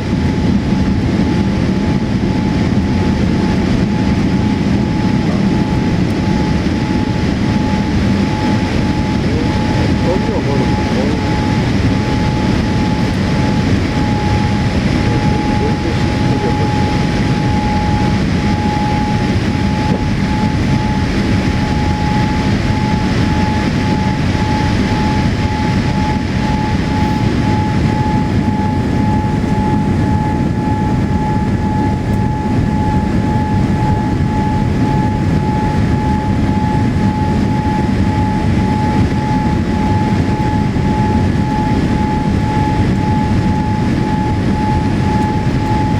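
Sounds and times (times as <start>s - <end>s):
thin steady whine: 0.0s - 45.9s
airliner cabin rumbling rush: 0.1s - 45.9s
faint higher tone: 5.0s - 45.9s.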